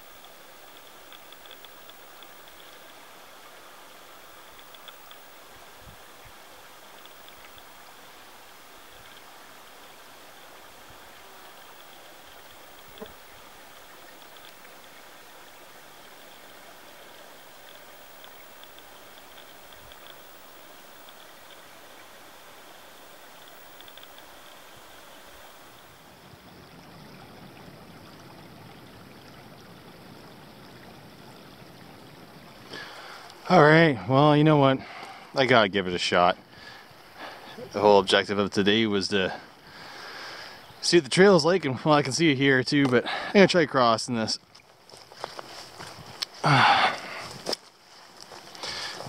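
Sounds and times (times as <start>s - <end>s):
running water: 0.0s - 49.0s.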